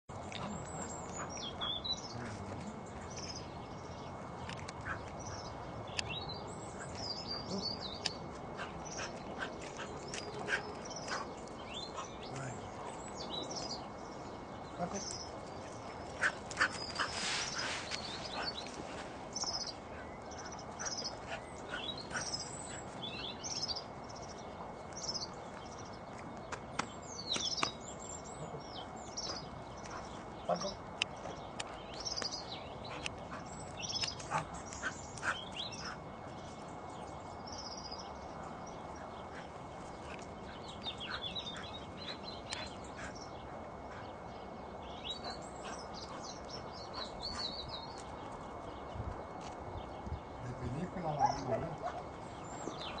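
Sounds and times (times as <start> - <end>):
small birds chirping: 0.1 - 53.0.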